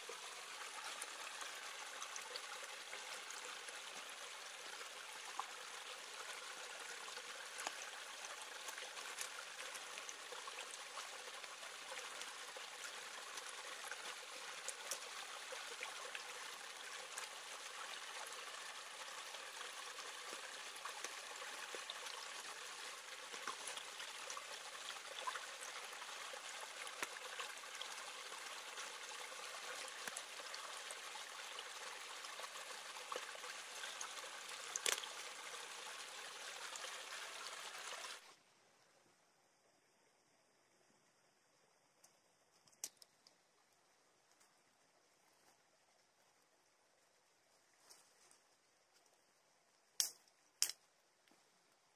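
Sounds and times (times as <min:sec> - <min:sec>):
stream trickling over rocks: 0:00.0 - 0:39.0, 0:40.3 - 0:51.9.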